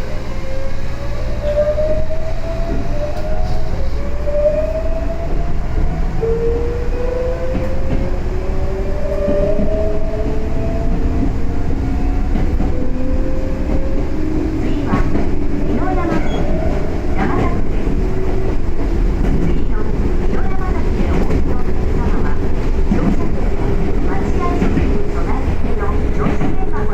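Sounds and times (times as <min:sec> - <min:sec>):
wheels rumbling on rail: 0:00.0 - 0:26.9.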